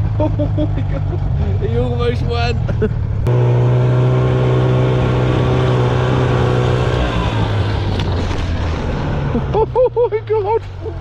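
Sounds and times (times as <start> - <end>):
snowmobile engine at high revs: 0.0 - 11.0.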